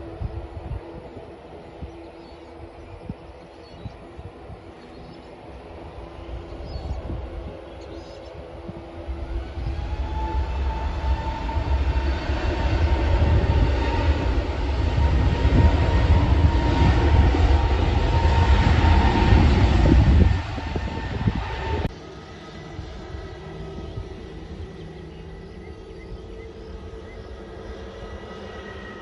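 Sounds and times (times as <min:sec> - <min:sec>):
jet airliner engines roaring: 0:00.0 - 0:29.0
steady engine whine: 0:00.0 - 0:29.0.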